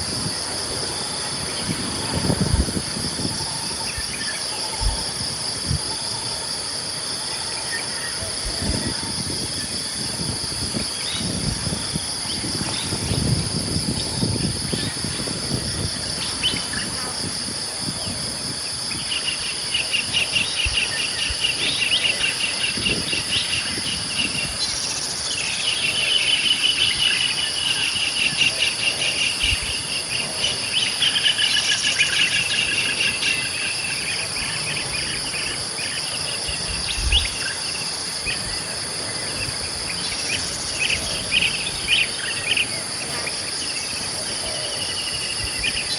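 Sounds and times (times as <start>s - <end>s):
insects buzzing: 0.0s - 45.9s.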